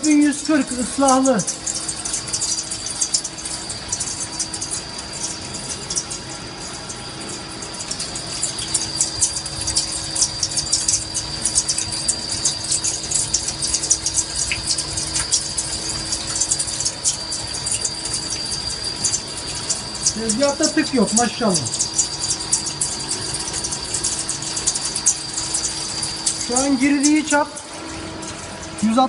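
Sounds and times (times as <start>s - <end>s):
coolant washing: 0.0s - 29.0s
lathe high whine: 0.0s - 29.0s.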